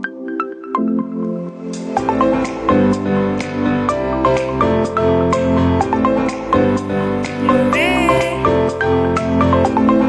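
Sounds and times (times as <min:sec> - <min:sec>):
keyboard music over steady beat: 0:00.0 - 0:10.0.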